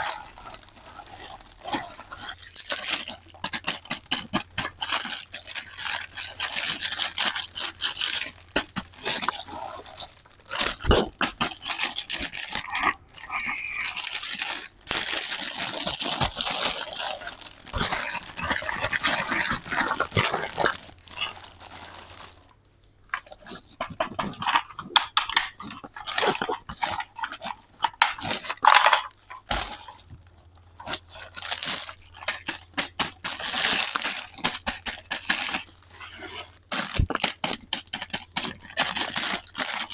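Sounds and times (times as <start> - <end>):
packaging crinkling and tearing: 0.0 - 39.9.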